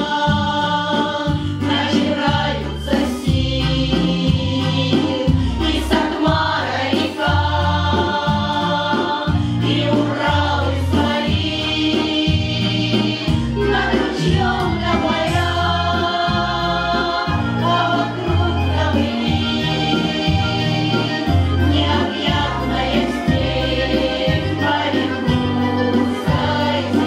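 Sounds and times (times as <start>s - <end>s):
instrumental accompaniment: 0.0s - 27.0s
women's ensemble singing in harmony: 0.0s - 27.0s.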